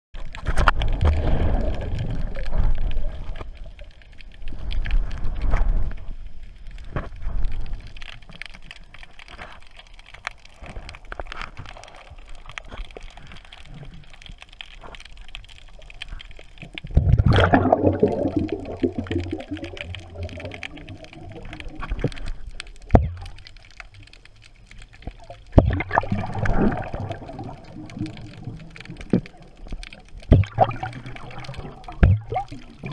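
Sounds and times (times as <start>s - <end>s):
underwater air bubbles gurgling: 0.2s - 6.0s, 10.4s - 32.9s.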